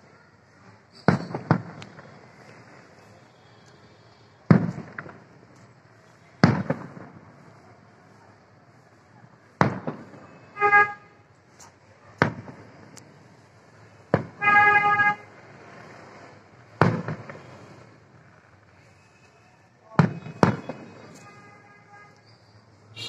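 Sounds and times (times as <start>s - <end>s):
fireworks bursting with sharp bangs: 0.4s - 23.0s.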